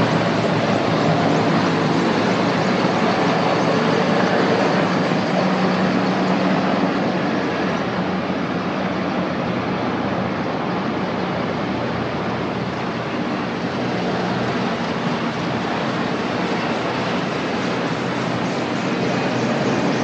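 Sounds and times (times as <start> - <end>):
helicopters droning overhead: 0.0 - 20.0.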